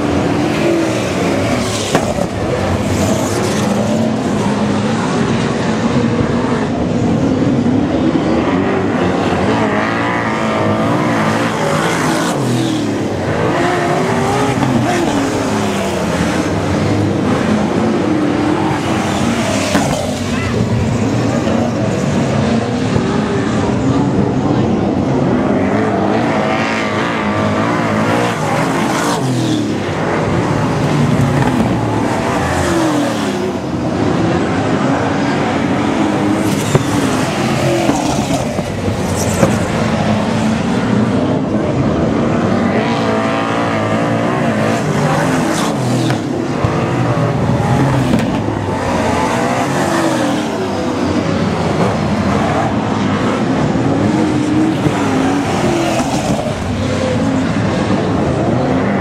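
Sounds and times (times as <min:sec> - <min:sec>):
racing car engines at high revs: 0:00.0 - 0:59.0.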